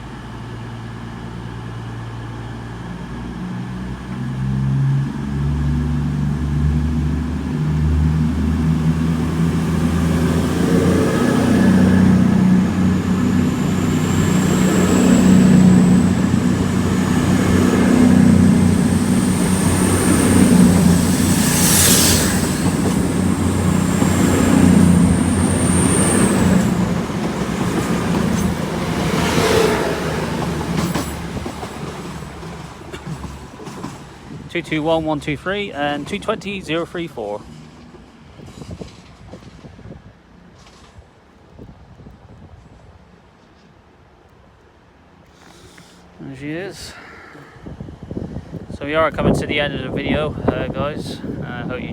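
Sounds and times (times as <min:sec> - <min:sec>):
diesel train running through station: 0:00.0 - 0:51.9.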